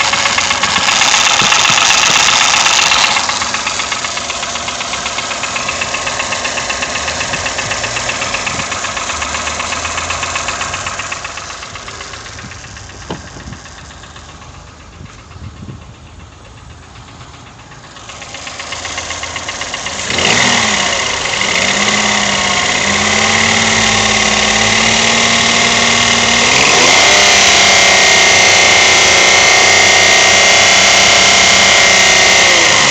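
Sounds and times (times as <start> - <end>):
engine running with rhythmic knock: 0.0 - 32.9.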